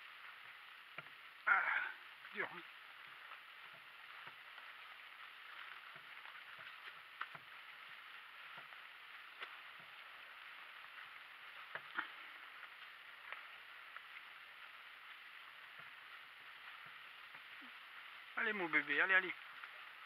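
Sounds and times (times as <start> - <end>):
hooves and cart knocks: 0.0 - 1.3, 2.2 - 20.0
cart wheels on rough ground: 0.0 - 20.0.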